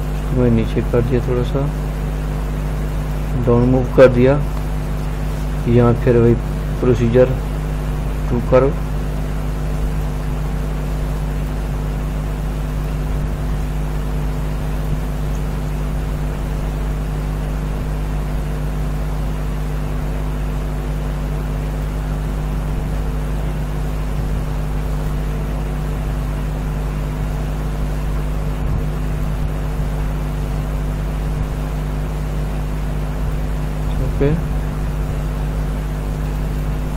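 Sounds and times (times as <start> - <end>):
steady low hum and drone: 0.0 - 36.9.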